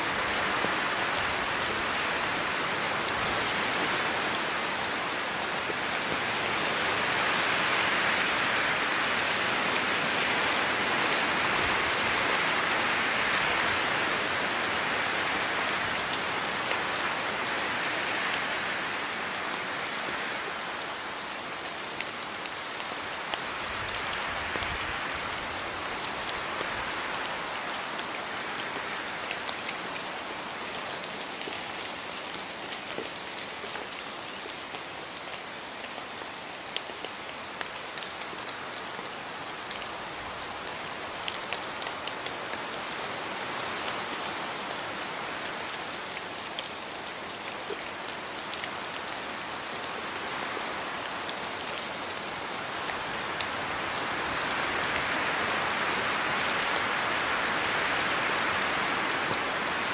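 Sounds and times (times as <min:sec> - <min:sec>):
steady rain falling: 0:00.0 - 0:59.9
raindrops pattering on surfaces: 0:00.1 - 0:59.9.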